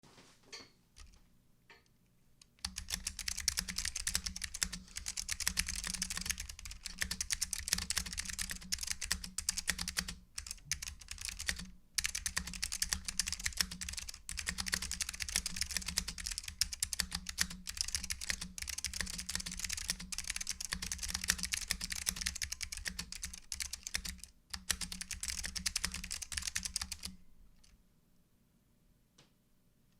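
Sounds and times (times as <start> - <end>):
clicky mechanical keyboard typing: 2.5 - 27.8.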